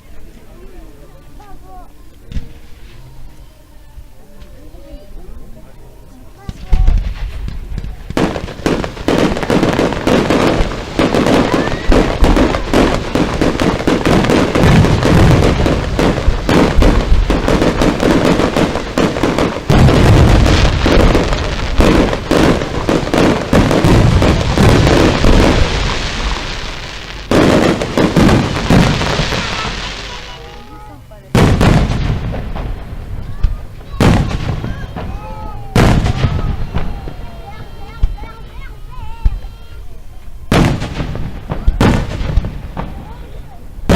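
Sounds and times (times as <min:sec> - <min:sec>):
fireworks bursting and crackling: 0:00.0 - 0:03.4, 0:04.5 - 0:43.9.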